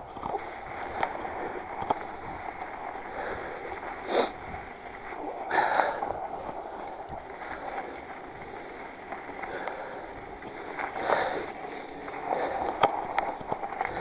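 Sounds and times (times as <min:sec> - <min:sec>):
bike tyres crunching over snow: 0:00.0 - 0:14.0
rider breathing: 0:00.0 - 0:14.0.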